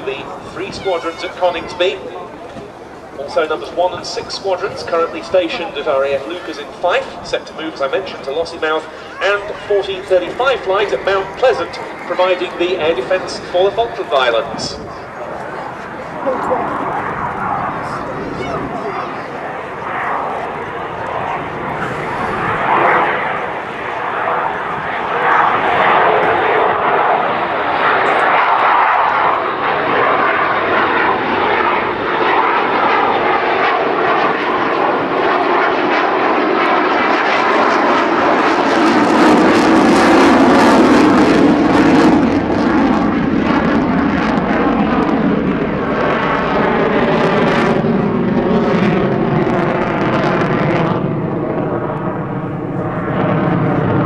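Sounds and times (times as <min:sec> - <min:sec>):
fighter jet engines roaring: 0:00.0 - 0:54.0.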